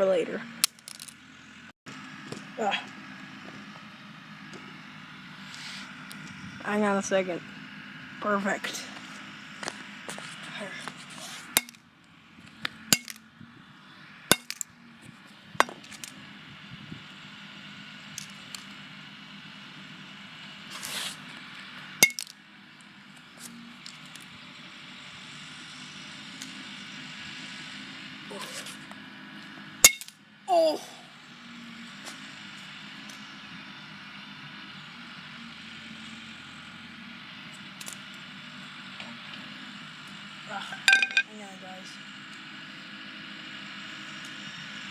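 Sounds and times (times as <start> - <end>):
steady background hum: 0.0 - 25.2, 28.0 - 44.9.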